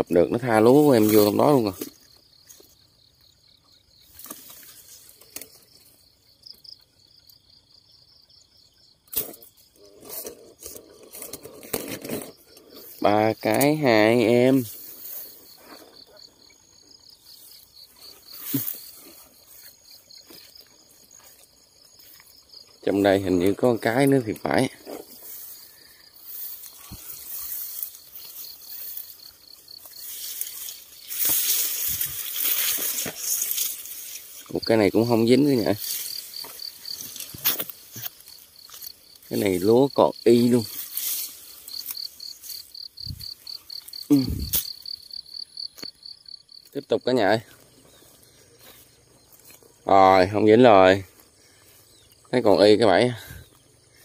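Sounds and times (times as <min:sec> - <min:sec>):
grass rustling: 0:00.0 - 0:07.6, 0:09.0 - 0:54.0
crickets chirping: 0:00.0 - 0:54.0.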